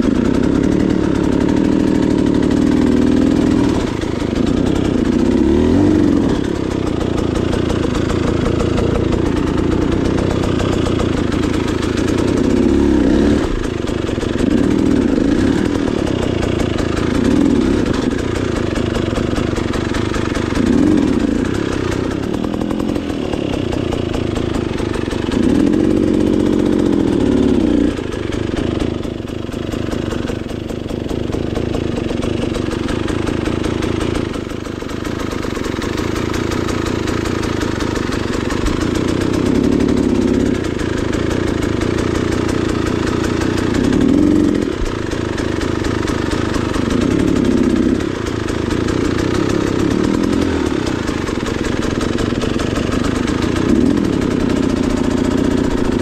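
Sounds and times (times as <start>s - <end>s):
dirt bike engine with throttle blips: 0.0s - 56.0s.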